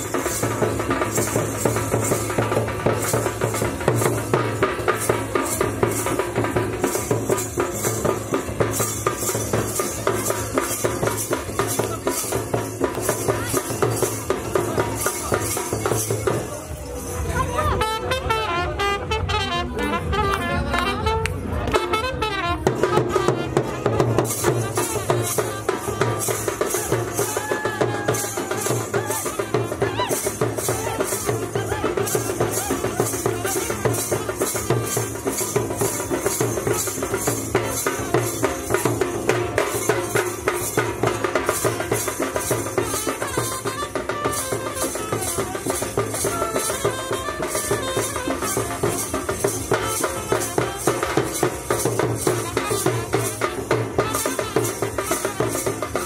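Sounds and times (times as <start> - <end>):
drums and small cymbals: 0.0 - 56.0
wedding band playing dance tune: 0.0 - 56.0.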